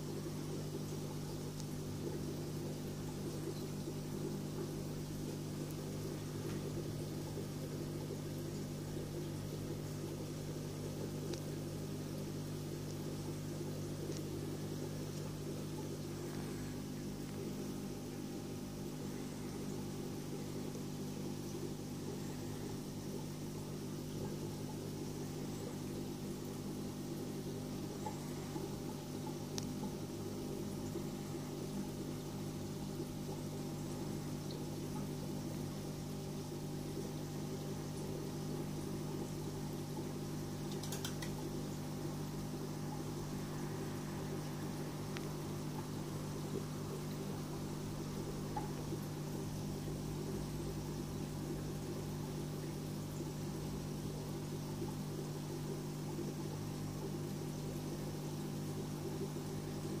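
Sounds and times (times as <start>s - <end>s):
aquarium pump humming: 0.0s - 60.0s
faint watery hiss: 9.8s - 60.0s.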